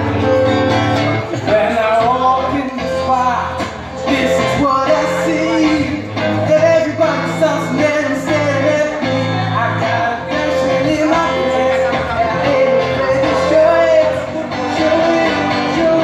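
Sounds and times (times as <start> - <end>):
electric guitar: 0.0 - 16.0
steady bass line: 0.0 - 16.0
man singing into a microphone: 0.1 - 16.0.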